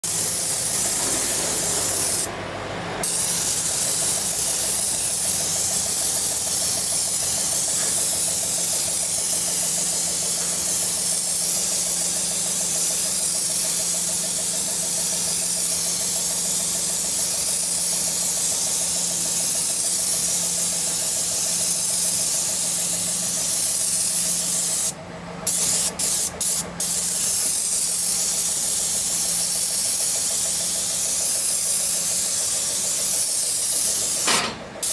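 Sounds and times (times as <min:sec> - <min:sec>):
spray gun hissing: 0:00.0 - 0:02.3, 0:03.0 - 0:34.9
low mechanical hum: 0:00.0 - 0:34.9.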